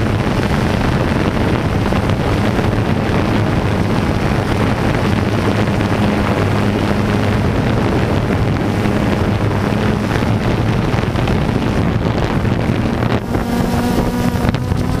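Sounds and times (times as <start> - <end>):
engine running: 0.0 - 15.0
wind buffeting microphone: 0.0 - 15.0.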